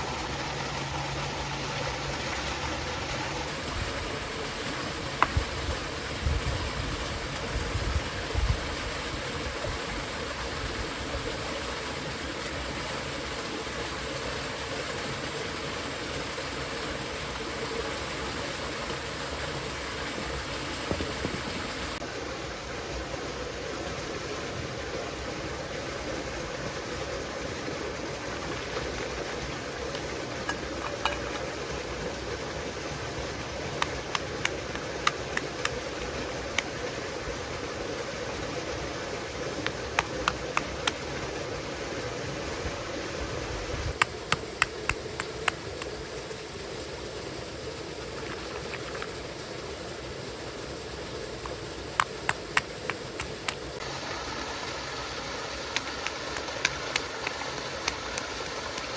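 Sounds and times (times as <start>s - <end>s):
flowing stream rushing: 0.0s - 58.9s.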